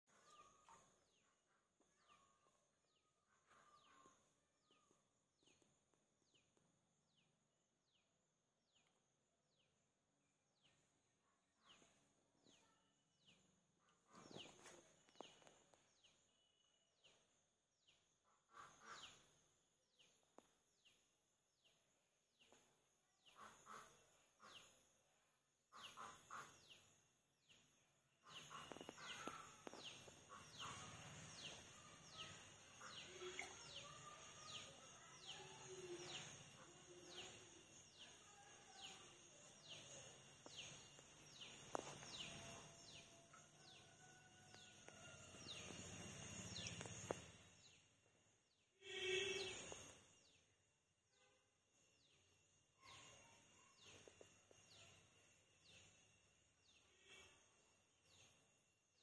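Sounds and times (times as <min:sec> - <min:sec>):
faint bird chirping: 0:00.1 - 0:59.0.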